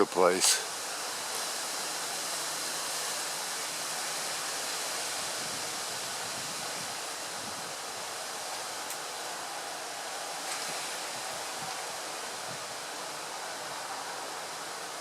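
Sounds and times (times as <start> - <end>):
gusty wind through foliage: 0.0 - 15.0.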